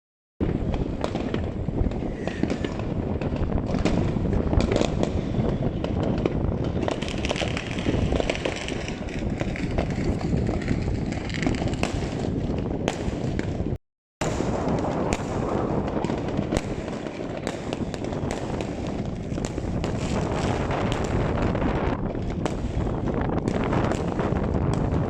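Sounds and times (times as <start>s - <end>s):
fireworks bangs and cracks: 0.4s - 25.0s.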